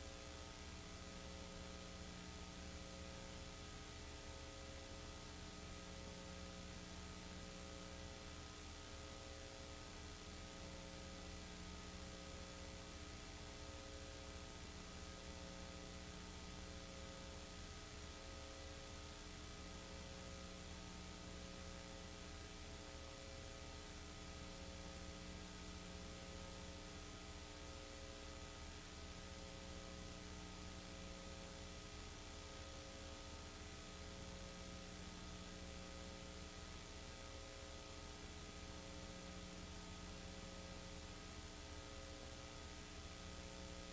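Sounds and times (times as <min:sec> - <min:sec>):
mains hum and hiss: 0:00.0 - 0:43.9.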